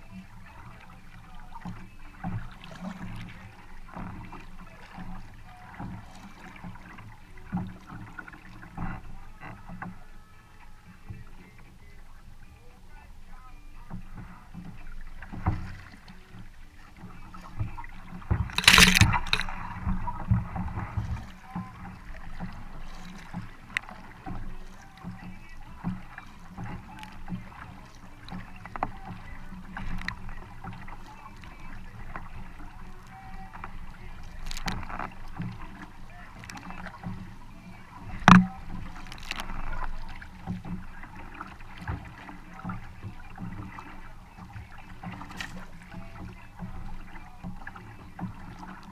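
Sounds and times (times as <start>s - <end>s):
paddle splashing in water: 0.0s - 48.9s.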